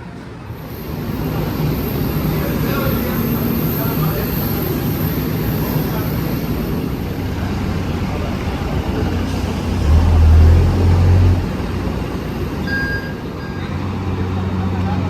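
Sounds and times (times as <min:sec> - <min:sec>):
vehicle interior rumble and hiss: 0:00.5 - 0:15.0.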